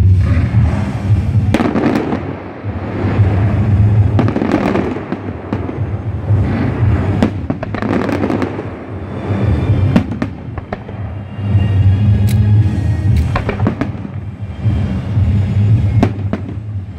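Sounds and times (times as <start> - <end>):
fireworks bursting: 0.0 - 16.9.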